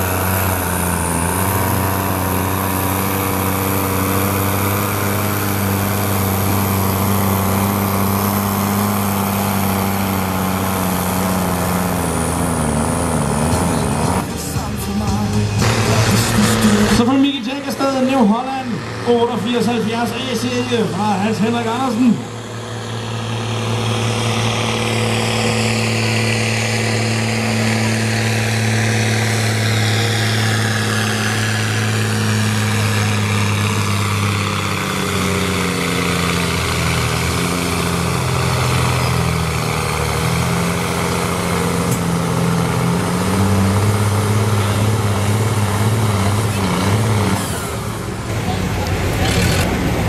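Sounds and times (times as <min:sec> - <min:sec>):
tractor diesel engine labouring: 0:00.0 - 0:50.0.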